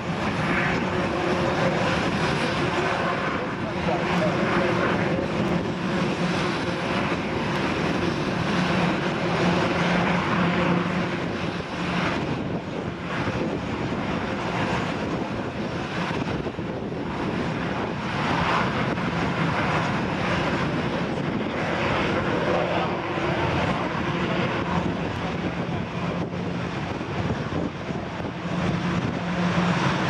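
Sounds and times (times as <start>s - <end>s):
helicopter engines and rotors droning: 0.0s - 30.0s.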